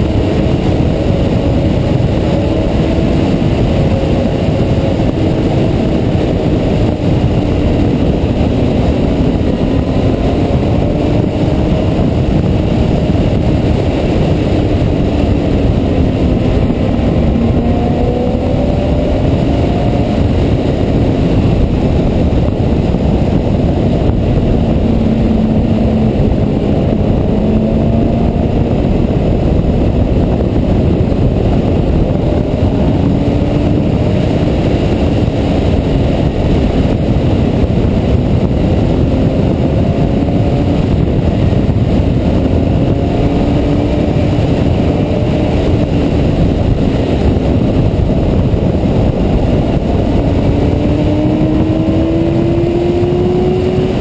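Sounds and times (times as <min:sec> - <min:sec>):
motorcycle engine cruising: 0:00.0 - 0:54.0
wind rush: 0:00.0 - 0:54.0.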